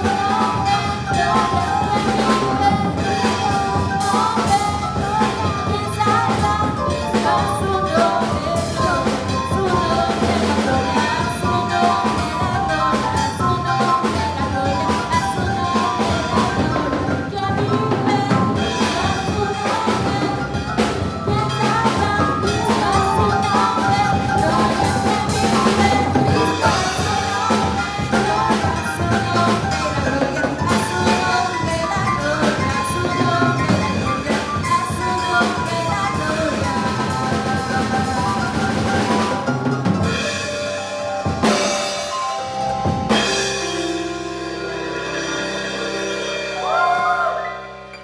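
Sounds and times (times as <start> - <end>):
drum kit groove: 0.0 - 47.2
church backing music: 0.0 - 48.0.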